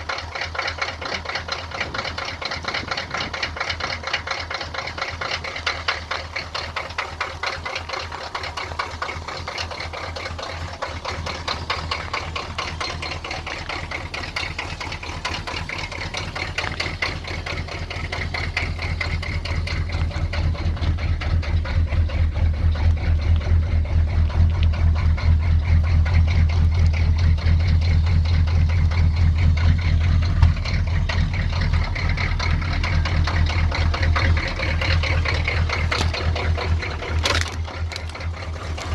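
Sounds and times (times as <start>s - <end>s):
diesel engine idling with clatter: 0.0s - 38.9s.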